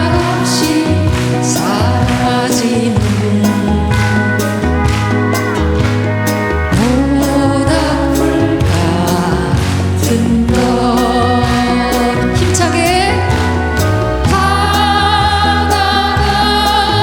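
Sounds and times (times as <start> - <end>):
live band playing slow song: 0.0 - 17.0
person singing: 0.0 - 17.0
steady bass line: 0.0 - 17.0.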